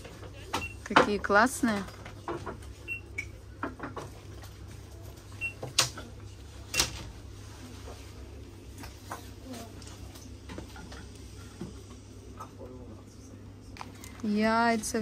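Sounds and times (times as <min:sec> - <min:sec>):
low hum of shop background: 0:00.0 - 0:15.0.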